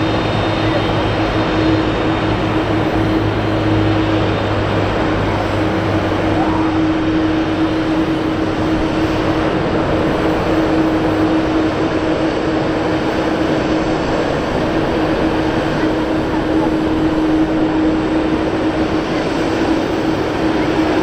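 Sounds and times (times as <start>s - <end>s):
low hum: 0.0s - 20.9s
jet engines running at low power: 0.0s - 21.0s.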